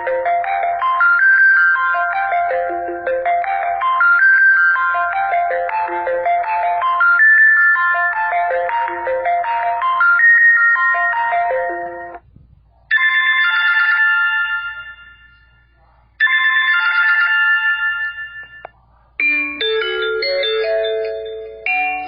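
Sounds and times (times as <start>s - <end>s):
phone ringtone melody: 0.0s - 12.2s, 12.9s - 15.6s, 16.2s - 22.0s.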